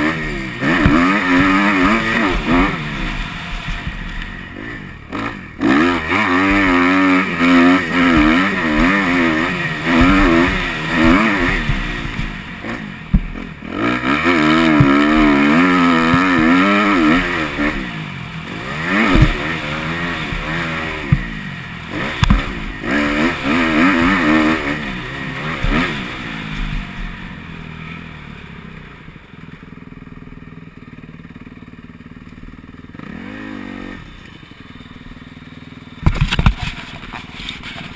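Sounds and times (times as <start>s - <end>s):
motocross bike engine revving: 0.0s - 37.9s.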